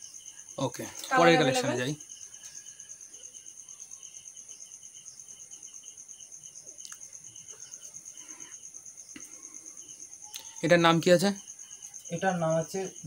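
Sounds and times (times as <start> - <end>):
high-pitched insect trilling: 0.0 - 13.0.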